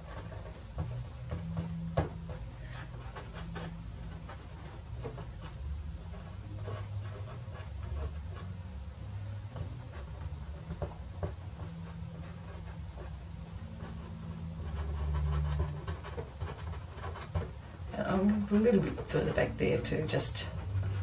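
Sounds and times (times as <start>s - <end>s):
pastel scratching on paper: 0.0s - 8.6s, 9.5s - 21.0s
low steady hum: 0.0s - 21.0s.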